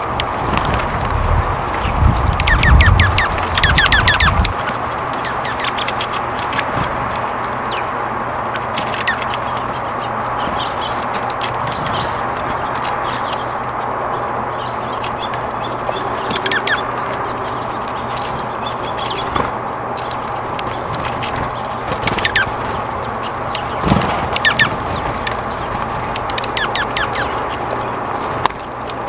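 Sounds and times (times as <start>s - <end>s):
outdoor background rush: 0.0s - 29.0s
small birds chirping: 0.0s - 29.0s.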